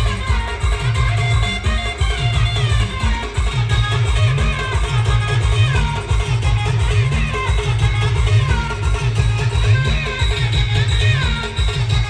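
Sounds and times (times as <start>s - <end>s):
guitar-like melody with gliding notes: 0.0s - 12.0s
heavy pulsing bass beat: 0.0s - 12.0s.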